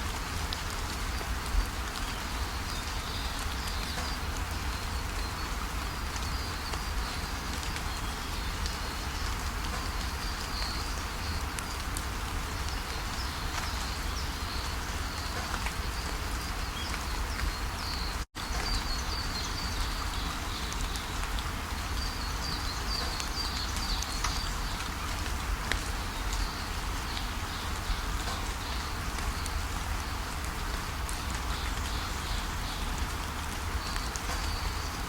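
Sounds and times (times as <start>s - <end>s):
small birds chirping: 1.1s - 35.0s.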